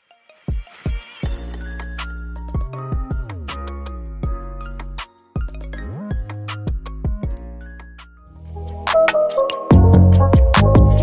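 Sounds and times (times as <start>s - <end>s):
electronic music with kick beat: 0.4s - 11.0s.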